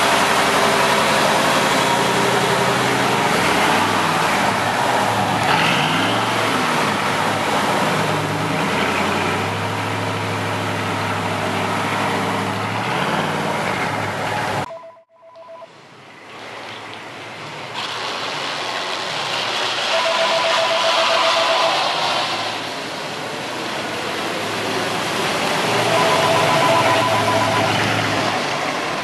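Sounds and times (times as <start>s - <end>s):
car engine idling and revving: 0.0s - 14.7s, 16.0s - 29.0s.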